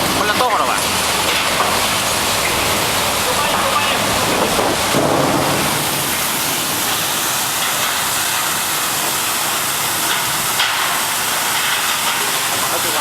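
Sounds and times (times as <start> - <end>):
washing machine water spray hiss: 0.0 - 13.0.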